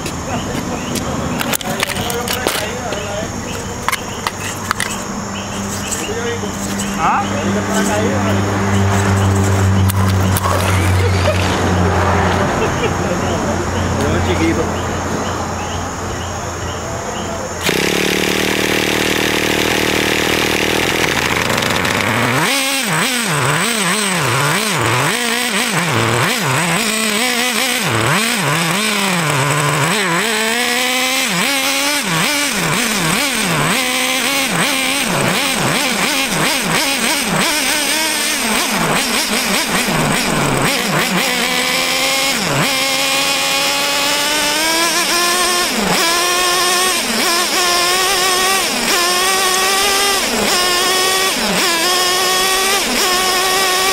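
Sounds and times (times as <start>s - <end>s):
small engine revving: 0.0s - 53.9s.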